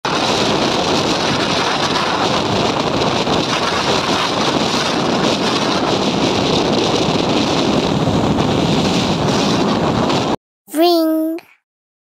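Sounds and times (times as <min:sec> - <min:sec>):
strong wind buffeting microphone: 0:00.1 - 0:10.4.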